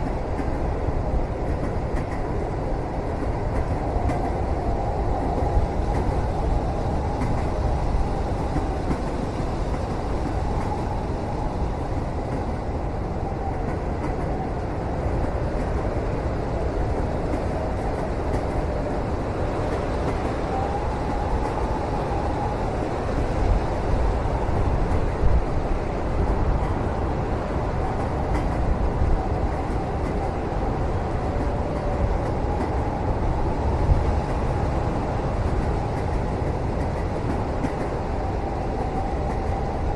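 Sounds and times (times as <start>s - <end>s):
train rumbling from inside carriage: 0.0s - 39.9s.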